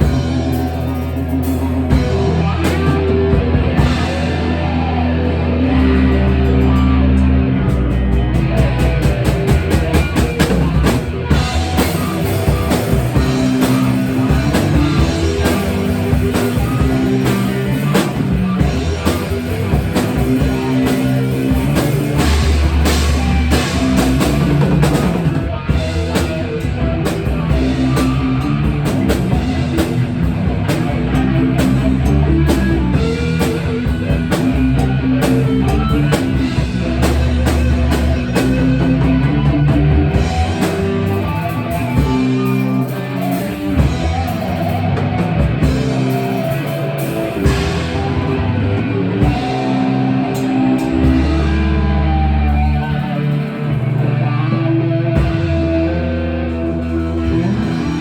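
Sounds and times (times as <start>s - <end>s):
loud rock music: 0.0s - 58.0s.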